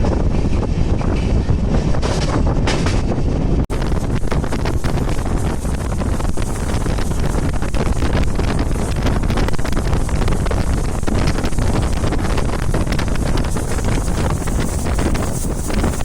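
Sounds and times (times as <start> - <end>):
moving passenger train: 0.0 - 16.0
wind buffeting microphone: 0.0 - 16.0.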